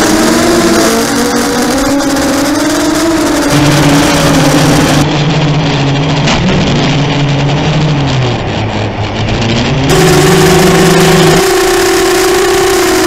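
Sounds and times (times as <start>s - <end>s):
quadcopter motors whining: 0.0s - 7.8s, 9.9s - 13.0s.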